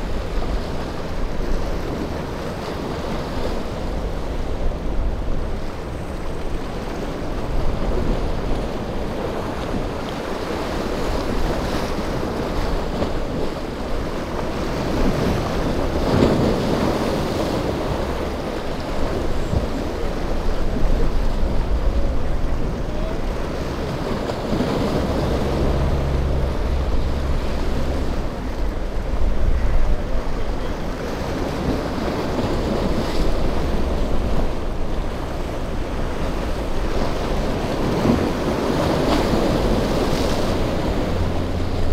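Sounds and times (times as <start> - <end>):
motorboat engine running: 0.0 - 41.9
waves breaking against rocks: 0.0 - 41.9
wind buffeting microphone: 0.0 - 41.9.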